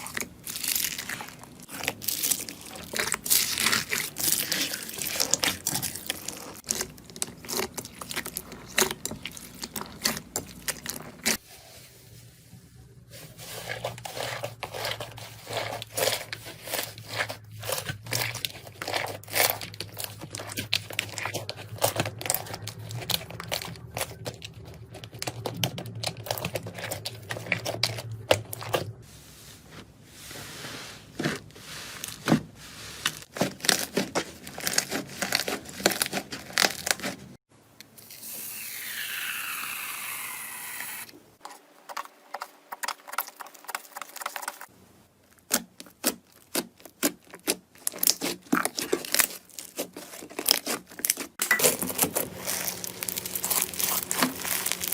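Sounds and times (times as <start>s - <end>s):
slime squelching and crackling: 0.0s - 11.5s, 13.0s - 38.9s, 41.8s - 54.9s.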